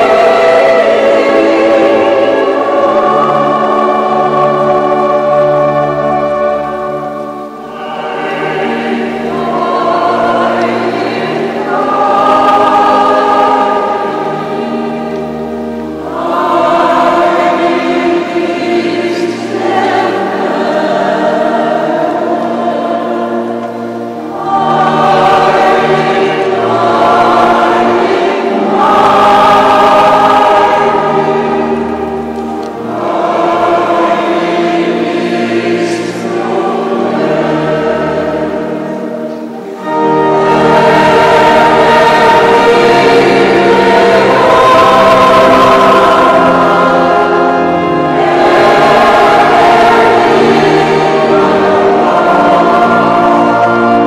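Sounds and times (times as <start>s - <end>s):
choir singing a hymn: 0.0s - 54.0s
organ: 0.0s - 54.0s.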